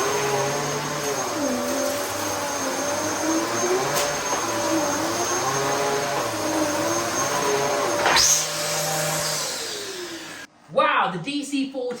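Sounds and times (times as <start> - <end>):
vacuum cleaner running: 0.0 - 10.5.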